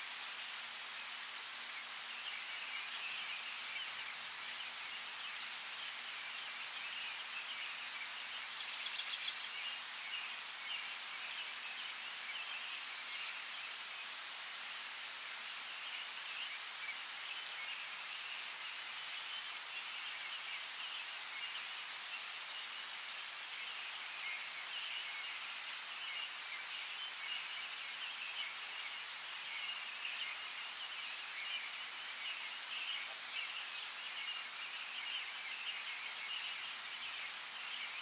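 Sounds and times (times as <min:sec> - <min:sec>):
light rain hiss: 0:00.0 - 0:38.0
small birds chirping: 0:00.6 - 0:38.0.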